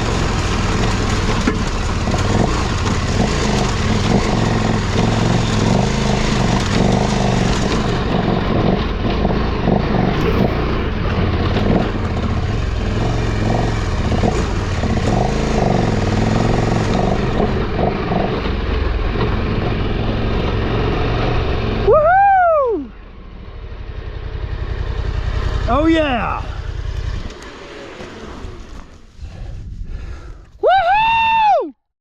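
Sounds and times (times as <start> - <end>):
rough rushing noise: 0.0 - 21.9, 26.4 - 30.7
motorcycle engine revving: 0.0 - 30.0.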